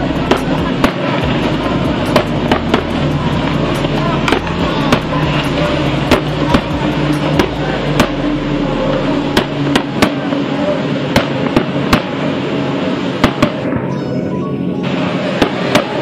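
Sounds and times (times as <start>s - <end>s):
outboard engines droning: 0.0s - 16.0s
sharp bangs: 0.0s - 16.0s.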